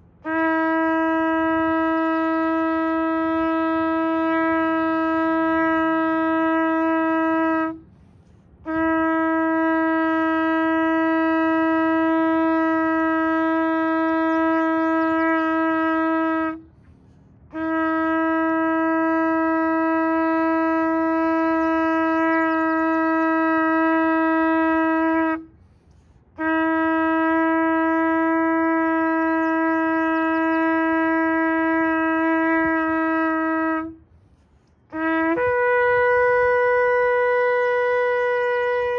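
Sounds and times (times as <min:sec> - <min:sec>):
shofar long blasts: 0:00.0 - 0:38.9.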